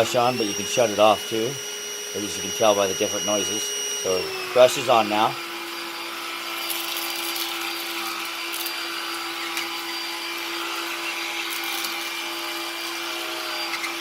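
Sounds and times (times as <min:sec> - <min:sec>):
stick vacuum running: 0:00.0 - 0:14.0.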